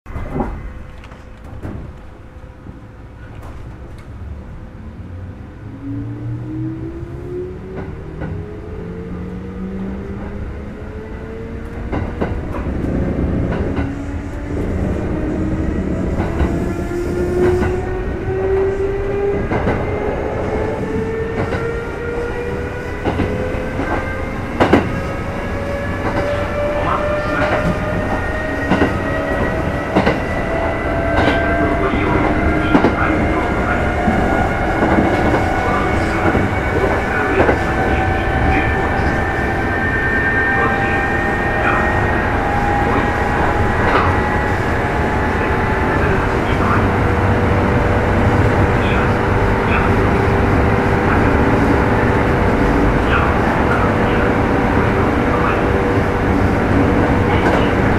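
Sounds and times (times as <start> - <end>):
train rolling rumble: 0.0 - 57.9.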